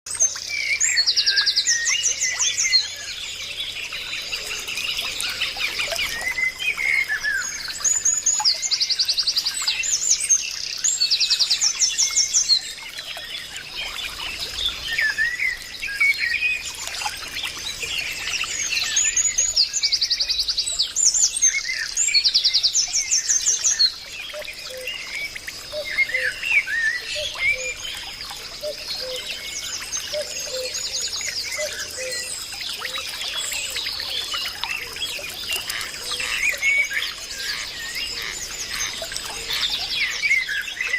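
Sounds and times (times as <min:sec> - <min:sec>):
birds singing and chirping: 0:00.1 - 0:40.9.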